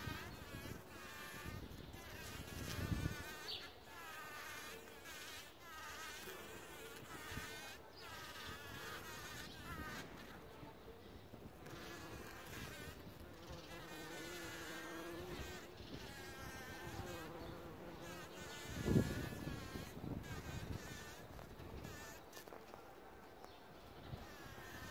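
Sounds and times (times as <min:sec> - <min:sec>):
bumblebee buzzing: 0:00.0 - 0:10.8, 0:11.4 - 0:22.8, 0:24.0 - 0:24.9.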